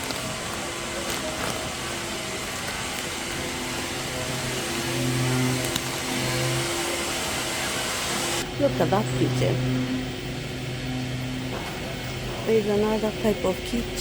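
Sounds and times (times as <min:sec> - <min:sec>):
low hum: 0:00.0 - 0:14.0
mechanical whir and hiss: 0:00.0 - 0:14.0.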